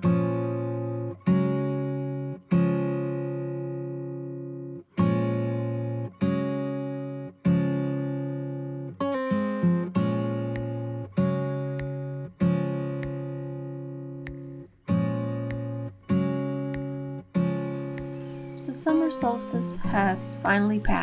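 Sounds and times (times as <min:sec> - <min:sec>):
acoustic guitar strummed chords: 0:00.0 - 0:21.0.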